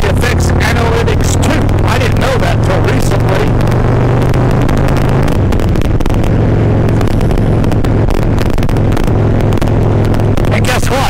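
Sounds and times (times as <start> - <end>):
wind rushing over microphone: 0.0 - 10.7
motorcycle engine running: 0.0 - 11.0.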